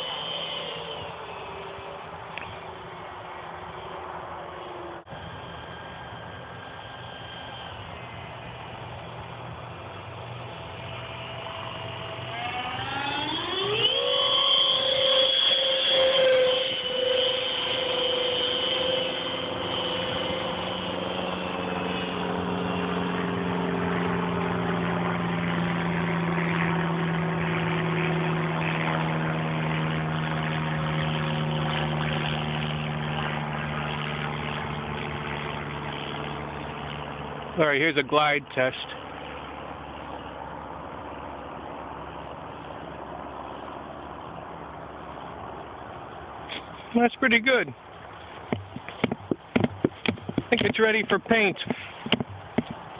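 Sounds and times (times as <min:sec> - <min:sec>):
electric ducted fans whining: 0:00.0 - 0:52.9.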